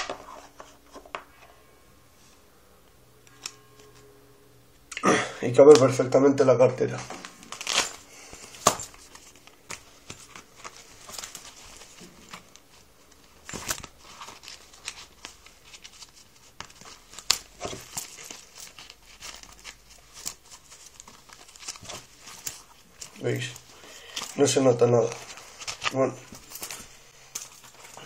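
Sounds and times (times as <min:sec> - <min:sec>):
rustling and crinkling: 0:00.0 - 0:02.4, 0:06.8 - 0:28.0.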